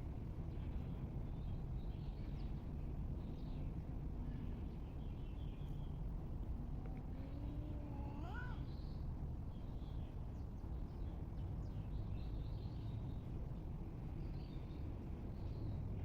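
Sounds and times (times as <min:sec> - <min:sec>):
faint birds chirping: 0:00.0 - 0:16.0
low outdoor rumble: 0:00.0 - 0:16.0.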